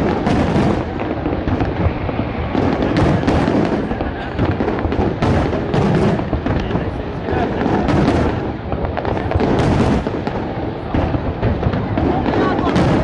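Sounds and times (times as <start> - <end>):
deep fireworks booms: 0.0 - 13.0
fireworks bangs and crackles: 0.0 - 13.0.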